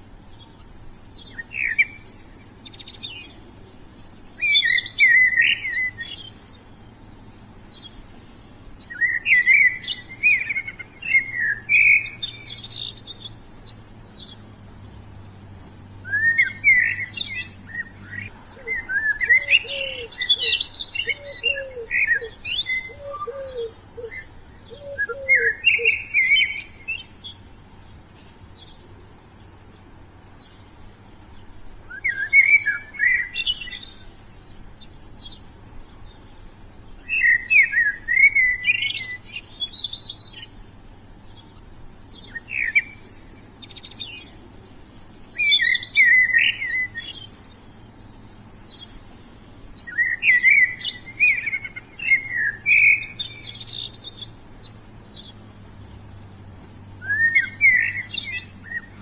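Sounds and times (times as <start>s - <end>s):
lower bird call: 0.0s - 29.8s, 30.4s - 59.0s
songbirds chirping: 0.0s - 59.0s.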